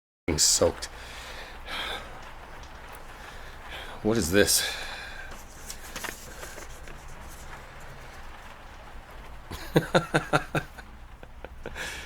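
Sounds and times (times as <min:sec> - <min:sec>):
faint background noise: 0:00.3 - 0:12.0.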